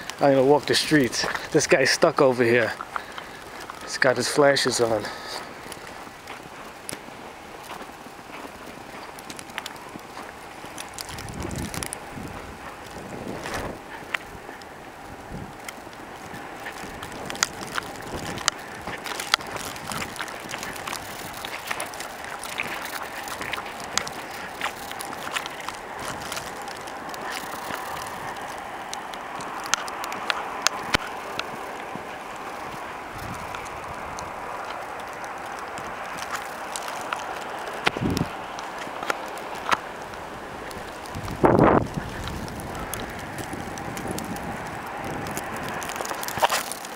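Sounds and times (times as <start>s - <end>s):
blizzard wind blowing: 0.0s - 46.9s
sharp ticks and crackles: 0.0s - 46.9s.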